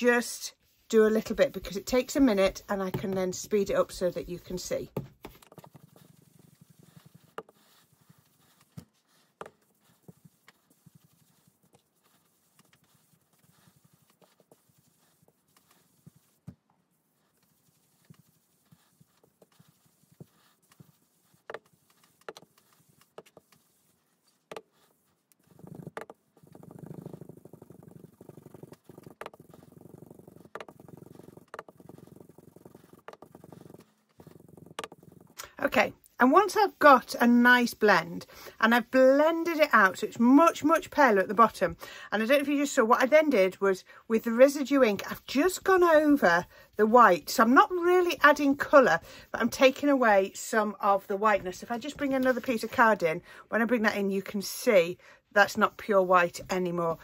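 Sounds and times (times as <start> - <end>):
soft rubbing on card: 0.0 - 43.6, 44.2 - 57.0.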